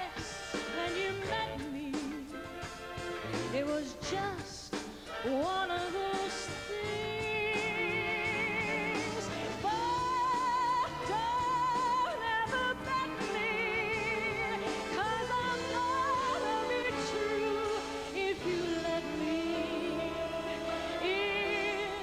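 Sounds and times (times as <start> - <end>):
woman singing a ballad: 0.0 - 2.4, 3.5 - 22.0
big band with saxophones: 0.0 - 22.0.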